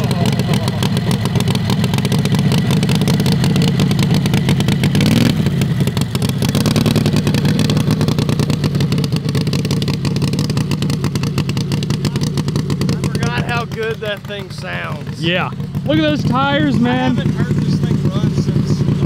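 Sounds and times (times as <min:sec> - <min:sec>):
loud engine running and revving: 0:00.0 - 0:19.0.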